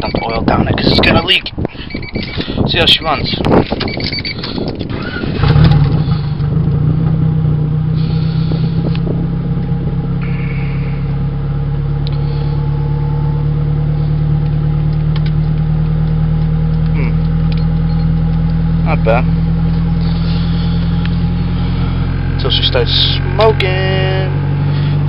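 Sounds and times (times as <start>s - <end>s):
car engine starting and idling: 0.0s - 25.0s.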